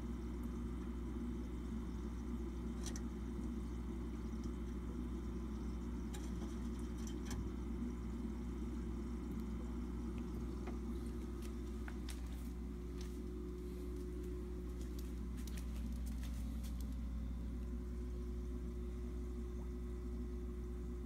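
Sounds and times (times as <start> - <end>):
aquarium filter motor hum: 0.0 - 21.0.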